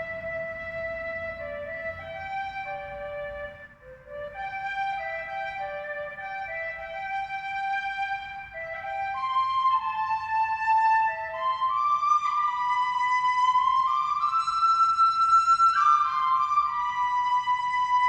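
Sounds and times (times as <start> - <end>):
instrumental music held notes: 0.0 - 18.0.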